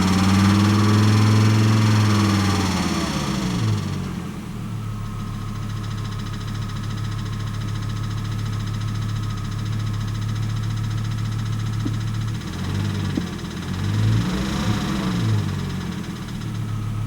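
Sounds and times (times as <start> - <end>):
car engine idling with ticking: 0.0 - 17.0.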